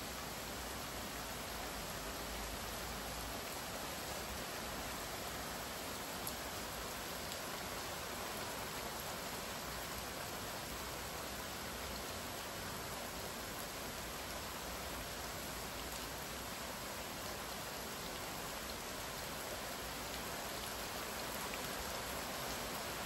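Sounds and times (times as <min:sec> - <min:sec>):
rain on wet ground: 0:00.0 - 0:23.0.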